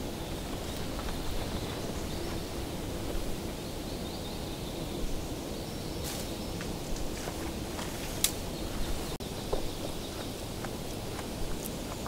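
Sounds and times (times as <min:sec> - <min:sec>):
background hiss: 0:00.0 - 0:12.0
faint insect hum: 0:00.0 - 0:12.0.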